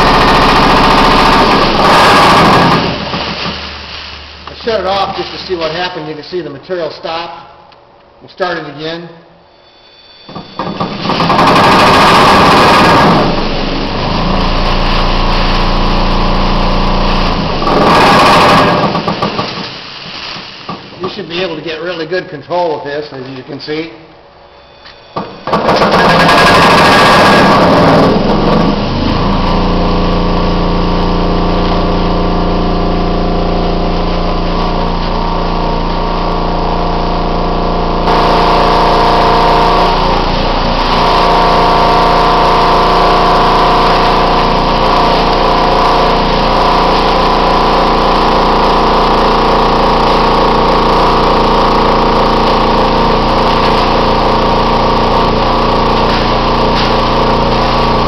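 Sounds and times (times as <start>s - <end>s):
machine motor hum: 0.0s - 6.2s, 10.2s - 19.6s, 24.9s - 58.0s
sawdust pouring through chute: 0.0s - 6.6s, 10.9s - 22.8s, 25.7s - 36.9s, 38.0s - 58.0s.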